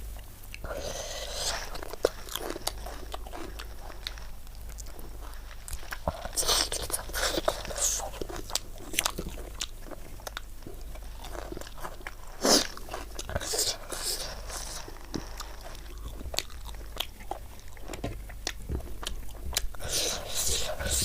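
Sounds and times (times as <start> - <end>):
wet chewing and mouth clicks: 0.5 - 21.0.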